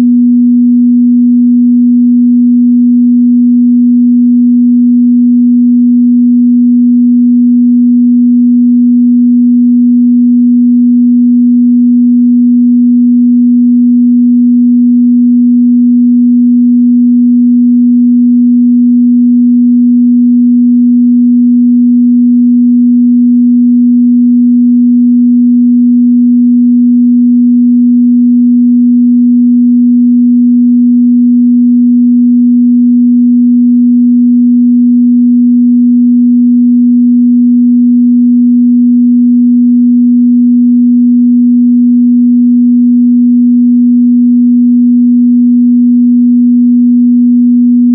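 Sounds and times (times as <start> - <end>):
sine-wave test tone: 0.0 - 47.9.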